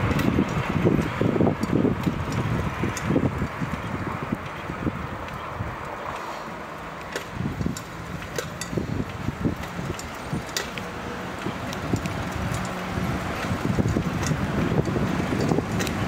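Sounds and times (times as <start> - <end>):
faint street traffic hum: 0.0 - 16.0
wind buffeting microphone: 0.0 - 16.0.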